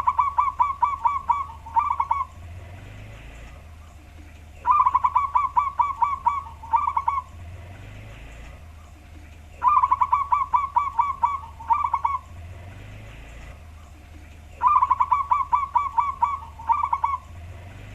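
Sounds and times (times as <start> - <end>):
dove cooing: 0.0 - 17.9.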